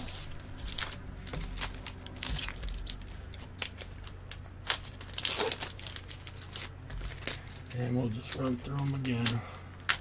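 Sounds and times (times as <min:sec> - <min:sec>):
wrappers torn and crinkled: 0:00.0 - 0:10.0.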